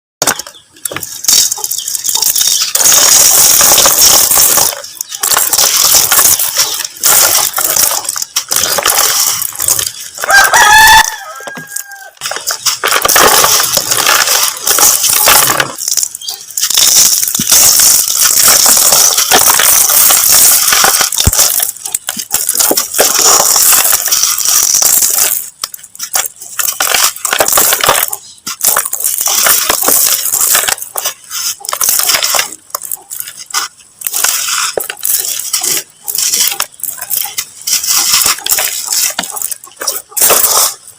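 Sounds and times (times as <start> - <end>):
dried mud crunching: 0.2 - 40.9.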